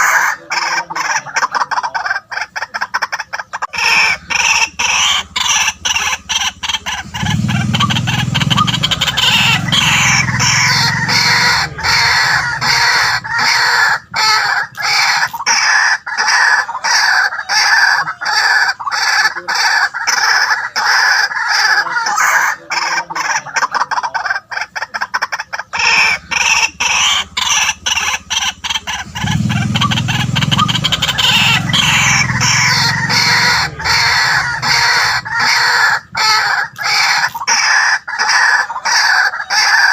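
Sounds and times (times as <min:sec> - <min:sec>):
waterhen calling harshly: 0:00.0 - 0:39.9.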